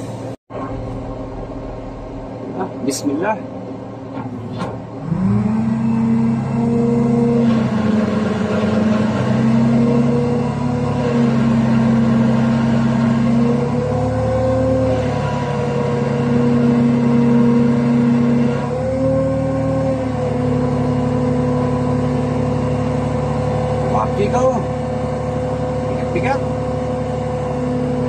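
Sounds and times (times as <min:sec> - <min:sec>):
crane diesel engine under load: 0:00.0 - 0:28.0.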